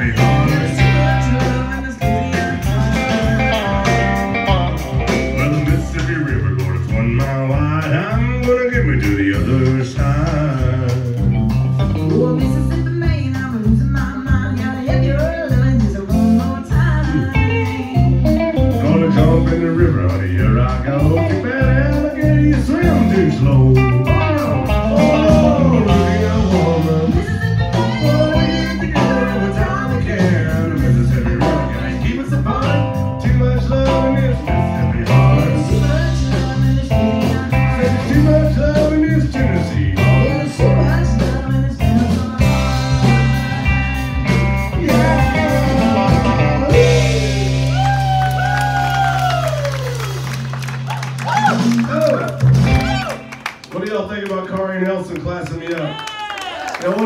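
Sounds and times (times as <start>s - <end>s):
man and woman singing duet: 0.0s - 4.2s, 5.0s - 11.3s, 12.0s - 50.0s
acoustic guitar: 0.0s - 48.2s
electric guitar: 0.0s - 54.2s
drums: 0.0s - 54.6s.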